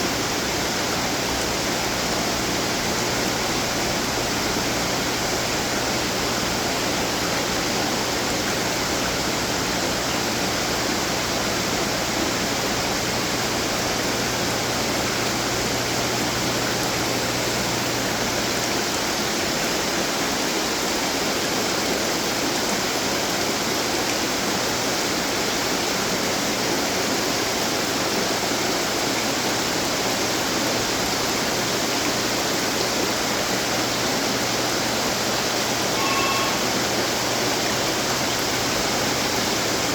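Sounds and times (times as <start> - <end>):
water fountains splashing: 0.0 - 39.9.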